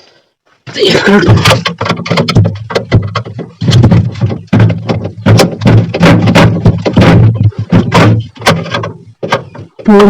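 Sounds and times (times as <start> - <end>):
knocks and thuds of fridge panels: 0.8 - 9.9.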